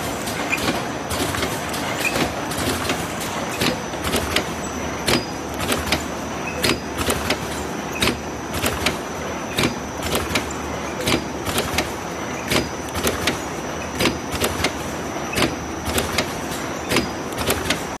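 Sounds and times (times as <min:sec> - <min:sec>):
machine hum with high whine: 0:00.0 - 0:18.0
sharp mechanical clacks: 0:00.0 - 0:18.0.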